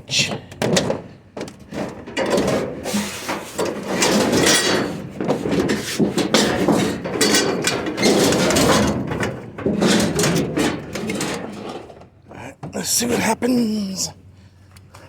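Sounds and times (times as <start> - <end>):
hard objects scraping and rattling: 0.1 - 12.4.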